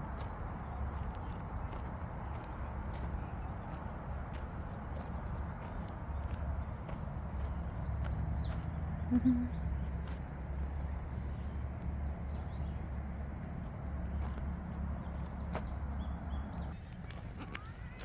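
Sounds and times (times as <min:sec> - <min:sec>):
low background rumble: 0:00.0 - 0:16.9
small birds chirping: 0:00.0 - 0:16.9.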